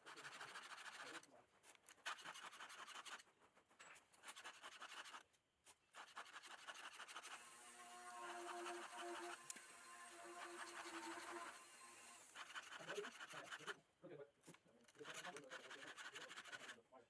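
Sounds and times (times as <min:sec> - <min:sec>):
file scraping chainsaw chain: 0:00.0 - 0:05.2, 0:06.0 - 0:11.6, 0:12.2 - 0:13.8, 0:14.8 - 0:16.8.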